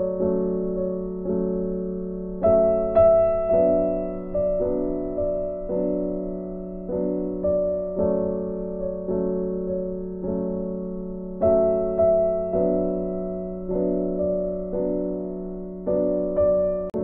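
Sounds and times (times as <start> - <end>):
gentle keyboard chords: 0.0 - 17.0.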